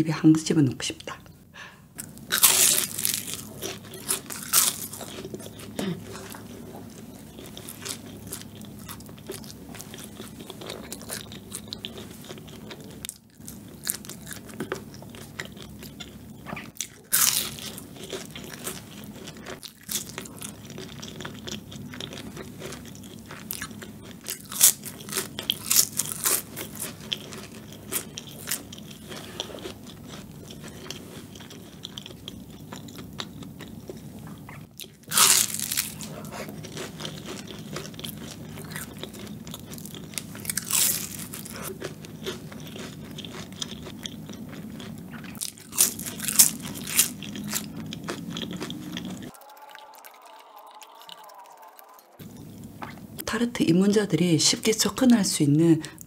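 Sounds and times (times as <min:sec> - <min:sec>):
pastry crust crunching bites: 0:02.0 - 0:34.0, 0:34.8 - 0:52.6
chewing: 0:02.0 - 0:53.2.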